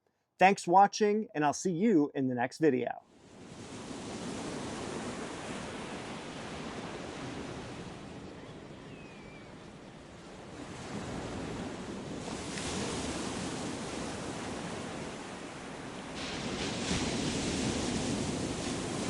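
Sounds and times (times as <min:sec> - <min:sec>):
ocean waves washing: 0:03.1 - 0:19.0.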